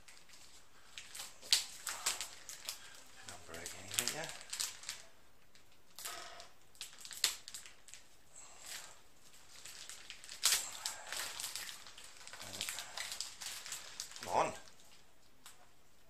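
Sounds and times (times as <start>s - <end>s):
plastic packaging crinkling: 0.0s - 15.6s.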